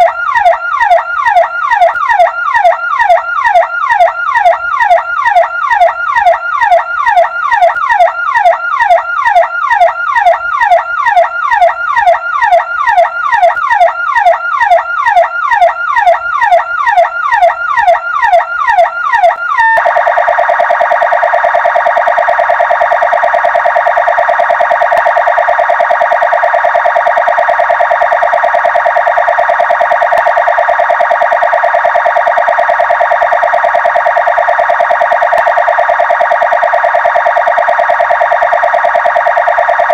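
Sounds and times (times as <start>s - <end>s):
electronic ambulance siren: 0.0s - 39.9s.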